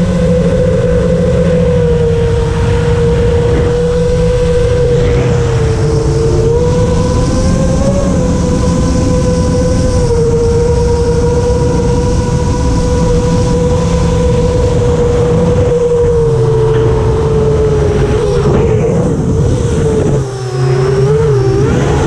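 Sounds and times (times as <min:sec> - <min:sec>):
drone motors whining: 0:00.0 - 0:22.0
wind rumble on microphone: 0:00.0 - 0:22.0.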